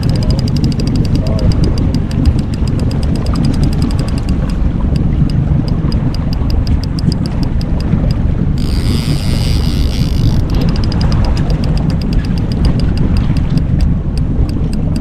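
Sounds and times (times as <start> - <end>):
boat motor running: 0.0 - 15.0
rapid sharp high ticks: 0.0 - 15.0
wind buffeting microphone: 0.0 - 15.0.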